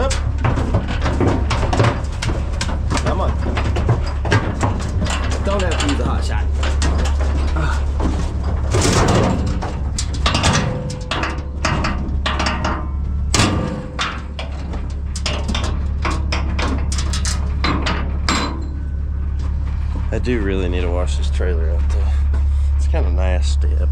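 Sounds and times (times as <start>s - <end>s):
metal knocks and clanks: 0.0s - 23.4s
low hum: 0.0s - 23.9s.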